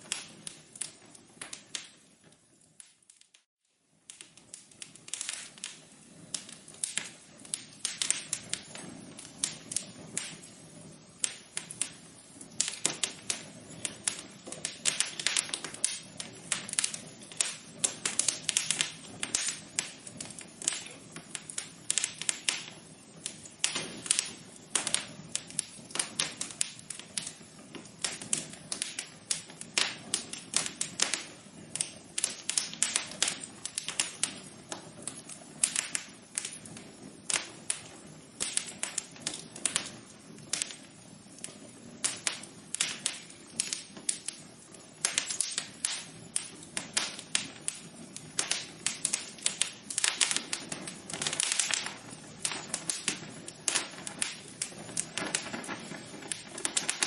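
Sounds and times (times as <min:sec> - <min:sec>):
low rush of flames: 0:00.0 - 0:57.0
wood fire crackling: 0:00.0 - 0:57.0.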